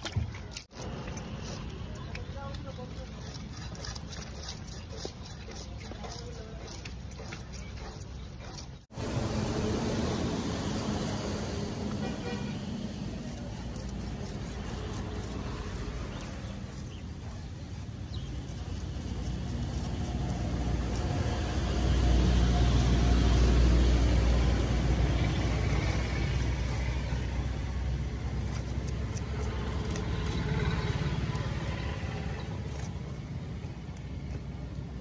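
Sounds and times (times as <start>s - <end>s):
road traffic engine rumble: 0.0s - 35.0s.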